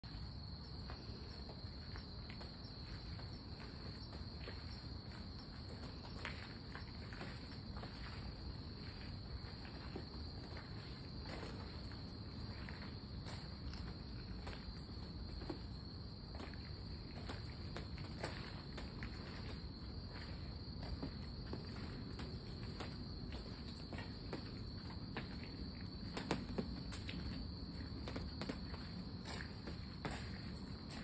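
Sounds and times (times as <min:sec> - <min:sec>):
footsteps: 0:00.0 - 0:31.0
insects chirping: 0:00.0 - 0:31.0.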